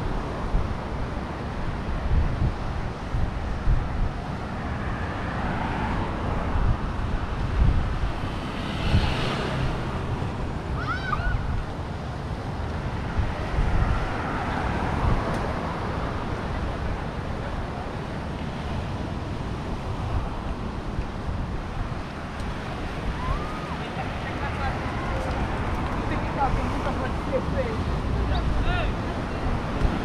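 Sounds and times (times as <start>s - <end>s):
outdoor rushing noise: 0.0s - 30.0s
wind buffeting microphone: 0.0s - 30.0s.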